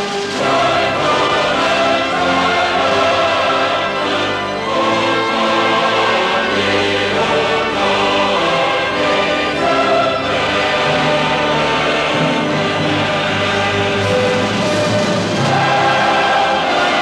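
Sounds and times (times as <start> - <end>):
choir with orchestra: 0.0 - 17.0.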